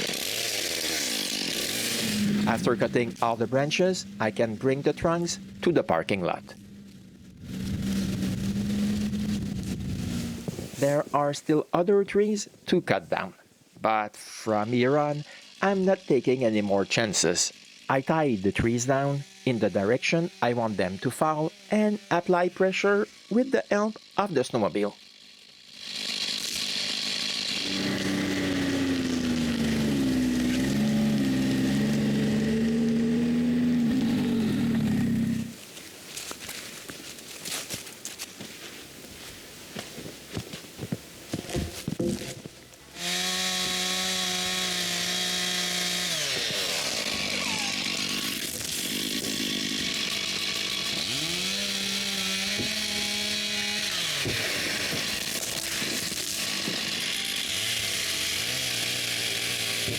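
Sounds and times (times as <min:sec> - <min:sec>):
chainsaw cutting into tree: 0:00.0 - 0:11.3, 0:14.2 - 0:38.4, 0:41.3 - 0:59.9.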